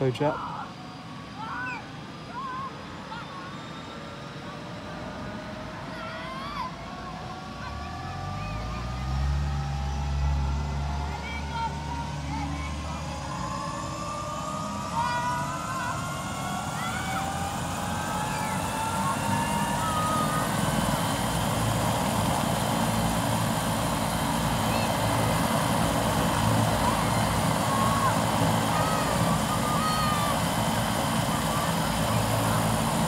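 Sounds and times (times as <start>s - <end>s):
helicopter turbine engine whine: 0.0s - 33.0s.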